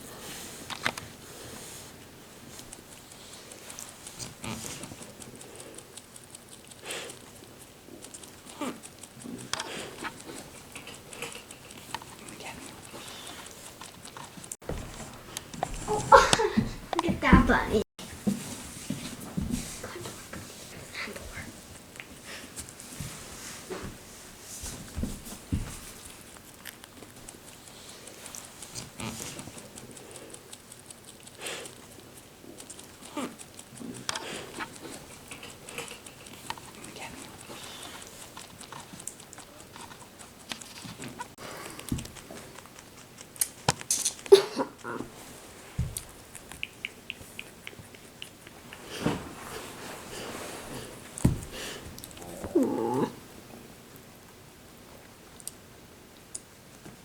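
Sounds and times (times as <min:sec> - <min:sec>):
rabbits chewing greens: 0:00.0 - 0:17.6, 0:18.2 - 0:52.8.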